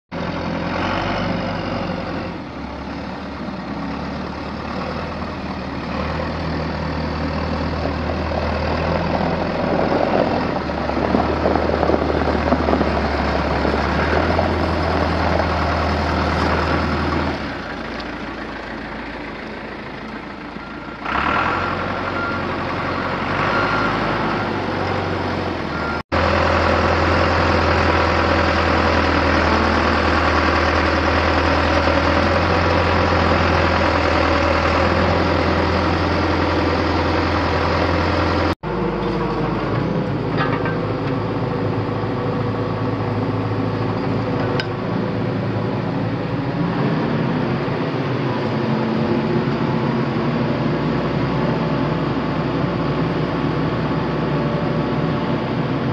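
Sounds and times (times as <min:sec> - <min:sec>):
diesel engine running: 0:00.1 - 0:55.9.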